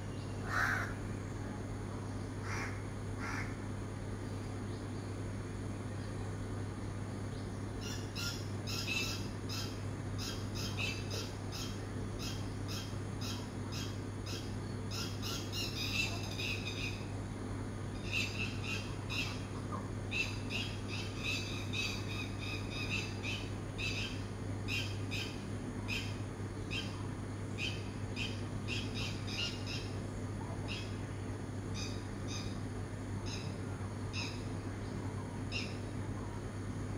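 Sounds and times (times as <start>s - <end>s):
dawn chorus of birds: 0.0s - 36.9s
steady low hum: 0.0s - 36.9s.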